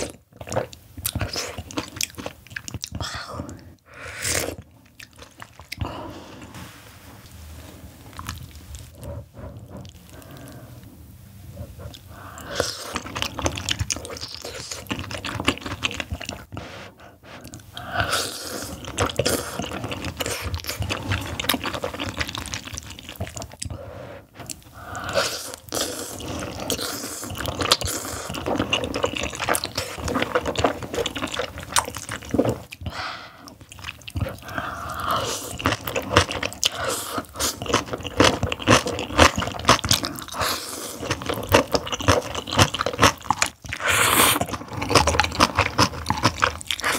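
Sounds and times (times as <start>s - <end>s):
slurping and chewing noodles: 0.0s - 6.6s, 11.6s - 46.9s.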